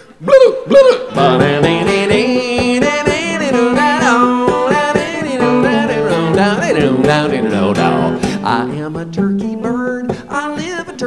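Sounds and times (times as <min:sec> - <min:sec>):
acoustic band music: 0:00.0 - 0:11.0
plucked guitar: 0:00.0 - 0:11.0.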